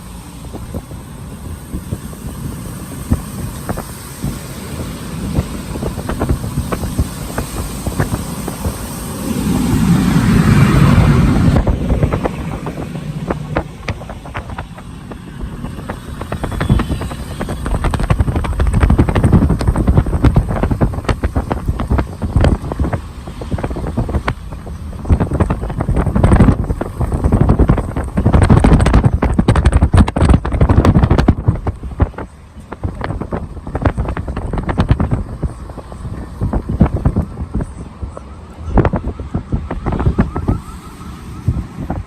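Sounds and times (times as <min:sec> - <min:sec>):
rumbling crackling outdoor noise: 0:00.0 - 0:42.0.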